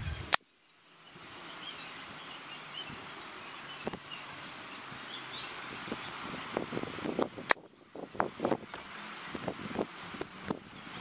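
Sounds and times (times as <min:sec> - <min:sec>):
outdoor hiss: 0:00.0 - 0:11.0
small birds chirping: 0:00.0 - 0:11.0.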